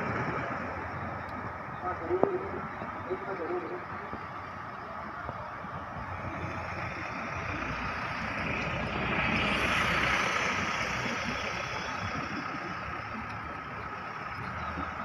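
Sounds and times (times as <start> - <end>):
street hum: 0.0 - 15.0
vehicle passing by: 0.0 - 15.0.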